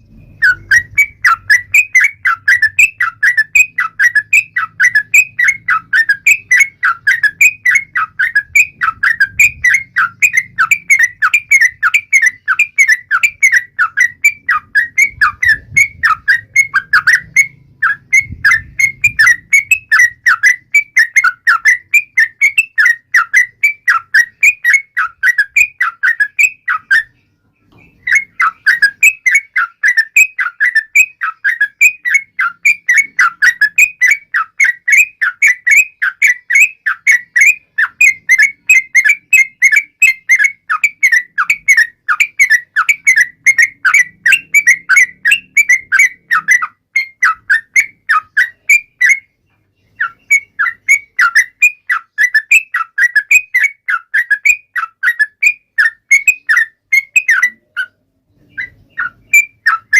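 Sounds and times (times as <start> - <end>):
bird singing whistled chirps: 0.0 - 59.9.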